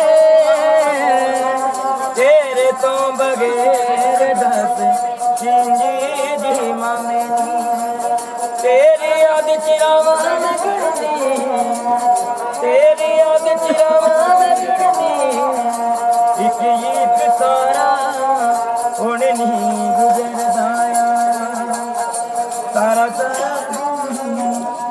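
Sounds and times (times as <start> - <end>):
quick jingling rhythm: 0.0 - 24.9.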